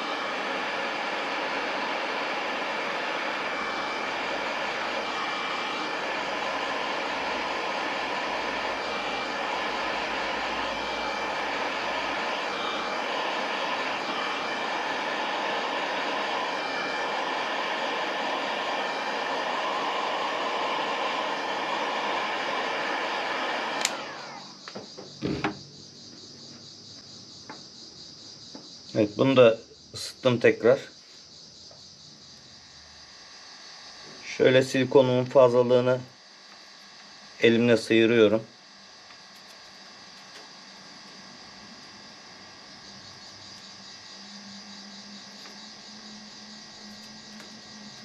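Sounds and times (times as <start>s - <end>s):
heat gun blowing: 0.0s - 25.6s, 33.0s - 48.0s
fan winding down whine: 0.0s - 30.9s, 31.7s - 48.0s
electrical hum: 0.0s - 48.0s
high hiss: 0.0s - 48.0s.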